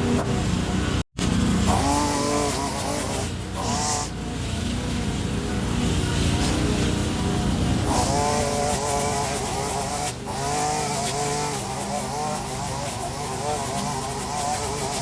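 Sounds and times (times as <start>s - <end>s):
small petrol engine running hard: 0.0s - 15.0s.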